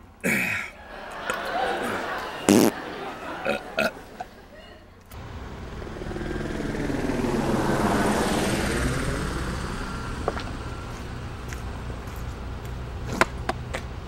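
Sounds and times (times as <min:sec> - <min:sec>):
aircraft passing overhead: 0:01.0 - 0:14.0
steady low hum: 0:02.0 - 0:14.0.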